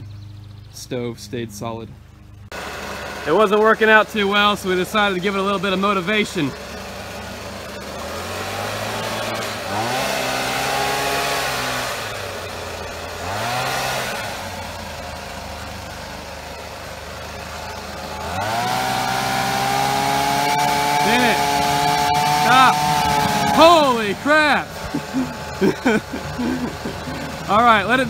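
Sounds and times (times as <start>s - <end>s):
small engine revving: 2.3s - 28.0s.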